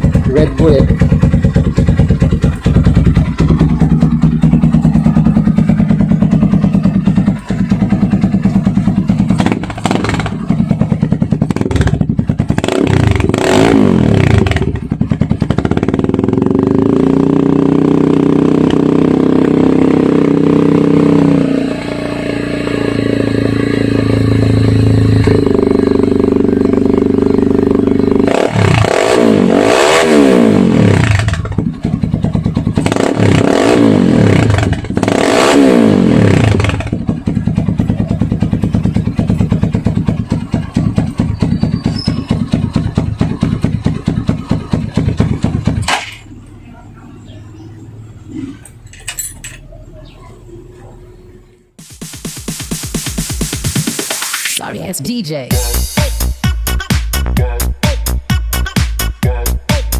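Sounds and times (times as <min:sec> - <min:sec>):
motorcycle engine revving: 0:00.0 - 0:54.6.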